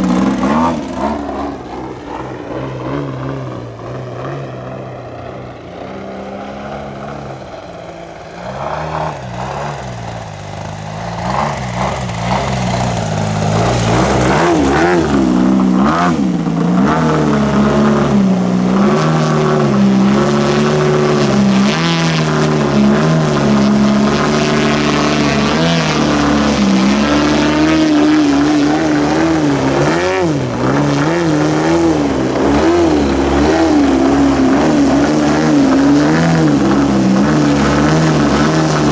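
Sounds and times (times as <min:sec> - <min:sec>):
model plane engine and propeller: 0:00.0 - 0:38.9.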